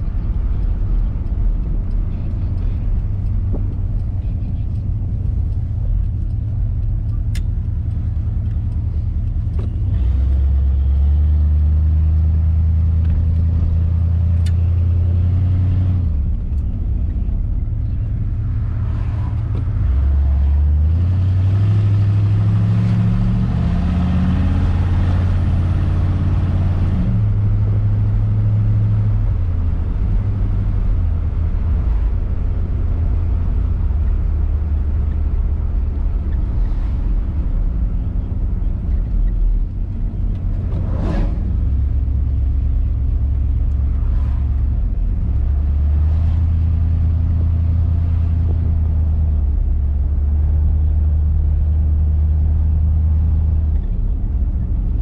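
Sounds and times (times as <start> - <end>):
car engine accelerating: 0.0 - 55.0
road and wind noise hiss: 0.0 - 55.0.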